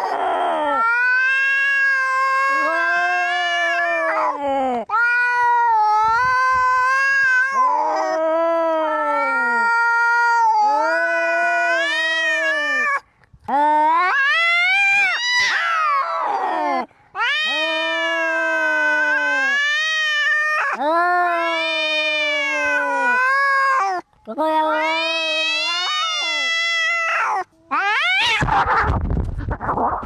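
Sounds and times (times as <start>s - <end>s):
cats yowling in a fight: 0.0s - 13.0s, 13.6s - 28.7s.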